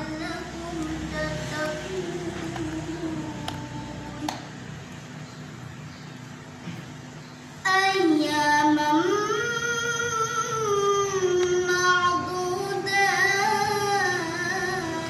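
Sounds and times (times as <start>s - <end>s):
young voice chanting recitation: 0.0s - 4.9s, 7.6s - 15.0s.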